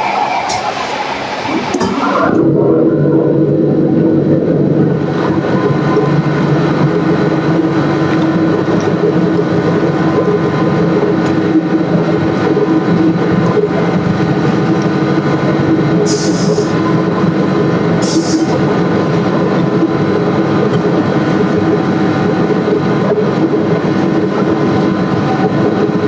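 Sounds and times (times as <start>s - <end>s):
machinery droning: 0.0s - 26.0s.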